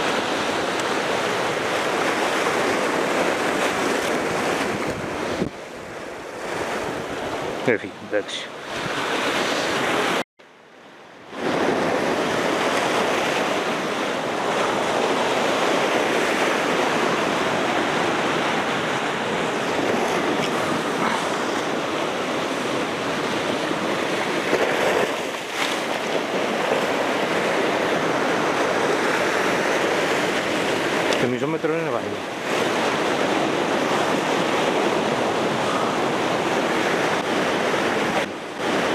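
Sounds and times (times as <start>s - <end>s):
surf washing over rocks: 0.0s - 10.2s, 11.2s - 38.9s.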